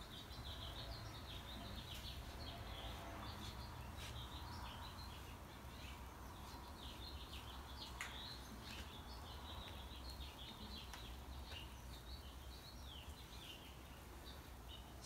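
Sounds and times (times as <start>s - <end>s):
faint small birds chirping: 0.0s - 15.0s.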